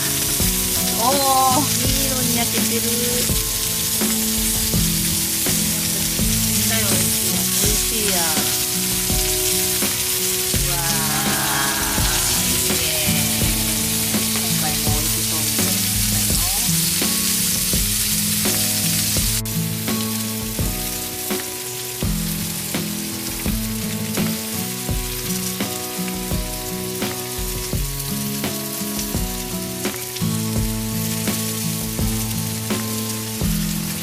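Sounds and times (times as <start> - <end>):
background music with steady beat: 0.0 - 34.0
food sizzling: 0.0 - 34.0.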